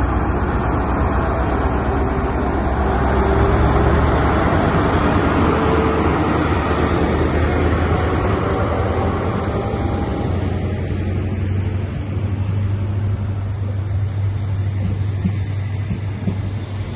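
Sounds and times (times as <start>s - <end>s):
train diesel engine running: 0.0s - 16.9s.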